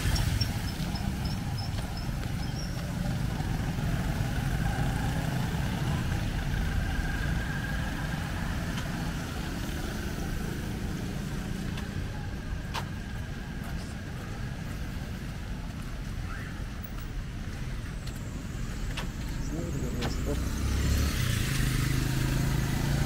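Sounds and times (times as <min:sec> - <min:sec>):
car engines passing: 0:00.0 - 0:23.0
street traffic rumble: 0:00.0 - 0:23.0.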